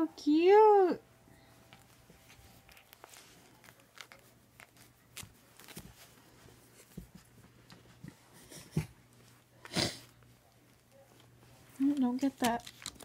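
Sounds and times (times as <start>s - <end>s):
puppy scuffling on carpet: 1.4s - 12.4s.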